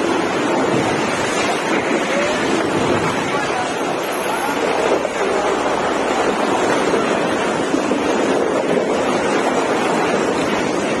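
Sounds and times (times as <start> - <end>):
vehicle driving through tunnel: 0.0 - 11.0.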